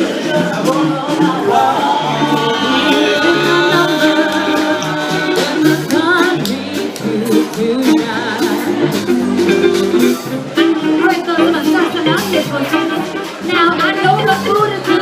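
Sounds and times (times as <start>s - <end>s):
jazz band playing: 0.0s - 15.0s
walking bass line: 0.0s - 15.0s.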